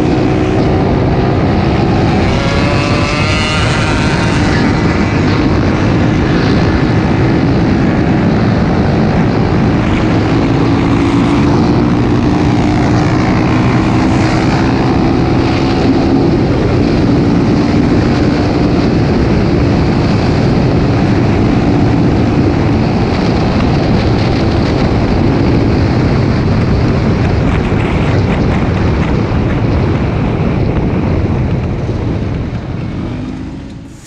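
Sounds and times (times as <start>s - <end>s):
dirt bike engine running: 0.0s - 34.0s
wind buffeting microphone: 0.0s - 34.0s.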